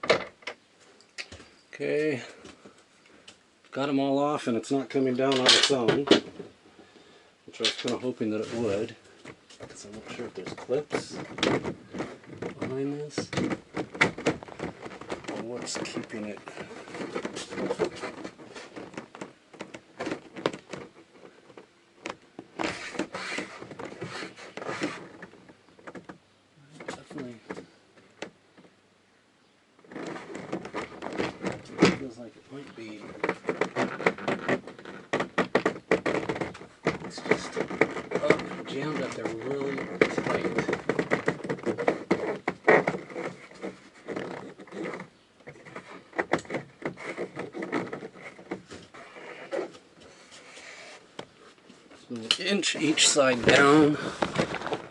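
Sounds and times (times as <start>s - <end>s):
panel scraping and rubbing: 4.7s - 26.1s, 29.8s - 54.9s.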